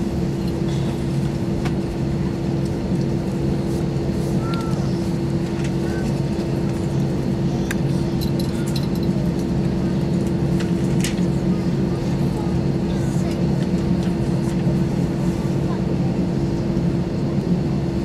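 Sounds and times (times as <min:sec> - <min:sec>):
aircraft engines idling: 0:00.0 - 0:18.0.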